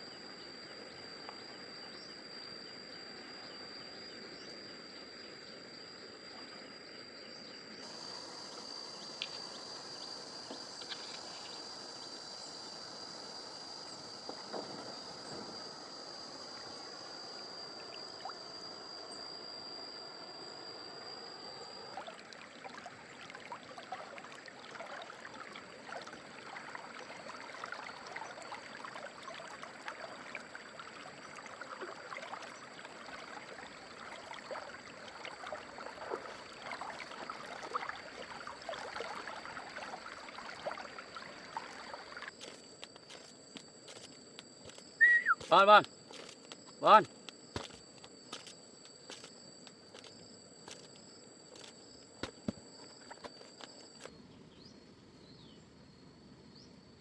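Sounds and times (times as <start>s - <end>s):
high-pitched insect drone: 0.0s - 56.7s
stream water running: 3.1s - 54.2s.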